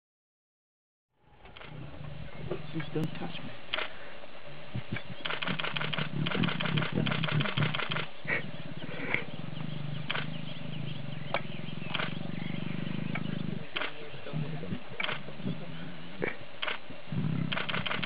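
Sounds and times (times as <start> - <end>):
lions growling: 1.4 - 18.0.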